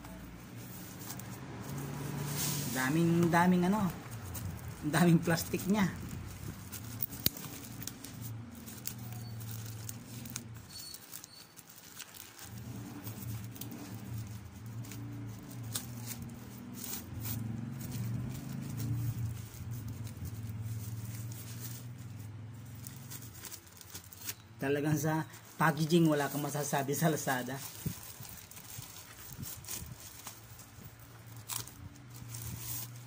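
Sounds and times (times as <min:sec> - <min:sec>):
plastic packaging crinkling: 0:00.0 - 0:33.0.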